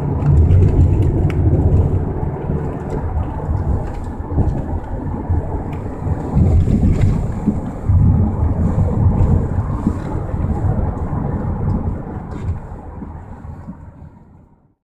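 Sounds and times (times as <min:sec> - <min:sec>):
wind on microphone: 0:00.0 - 0:14.6
car riding rumble: 0:00.0 - 0:14.8.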